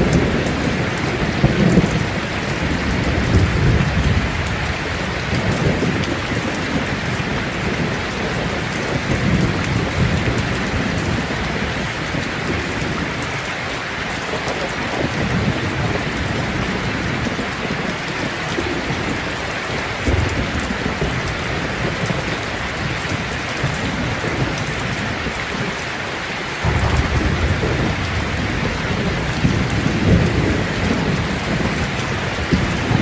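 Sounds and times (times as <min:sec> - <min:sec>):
thunder rumbling: 0:00.0 - 0:13.4, 0:18.5 - 0:25.8, 0:26.6 - 0:33.0
heavy rain pouring: 0:00.0 - 0:33.0.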